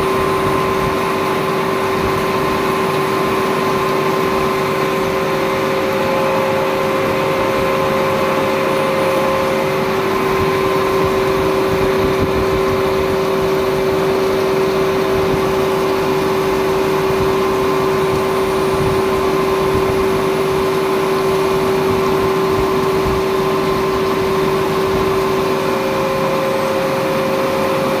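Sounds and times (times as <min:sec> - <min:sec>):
grinding machine hum and whine: 0:00.0 - 0:28.0.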